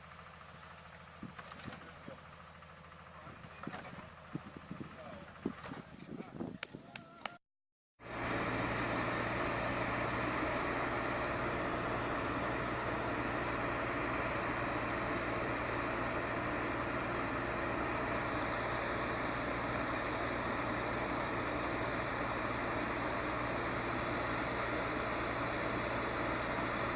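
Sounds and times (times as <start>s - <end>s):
heavy vehicle engine running: 0.0s - 6.4s, 8.0s - 26.9s.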